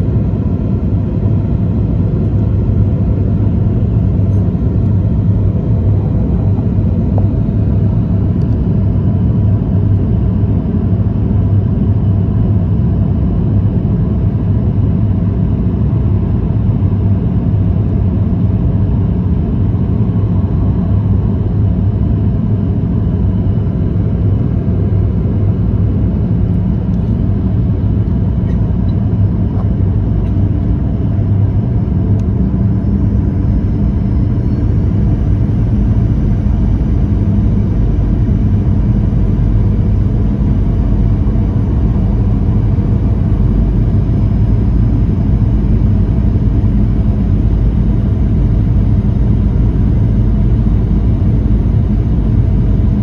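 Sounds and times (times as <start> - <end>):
airplane cabin engine rumble: 0.0 - 53.0
low hum: 0.0 - 53.0.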